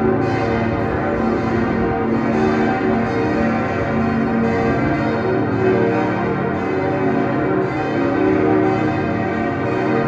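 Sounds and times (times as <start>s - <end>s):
church bells pealing: 0.0s - 10.0s.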